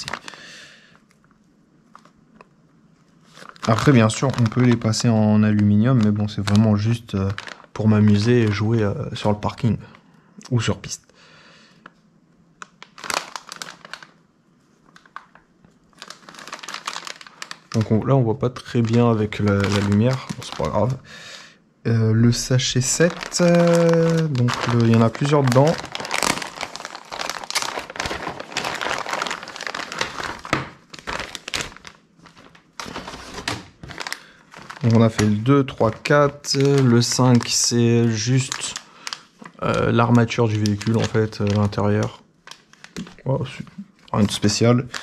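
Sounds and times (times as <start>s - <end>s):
plastic bag crinkling: 0.0s - 0.4s, 3.1s - 10.0s, 12.6s - 21.1s, 21.9s - 45.0s.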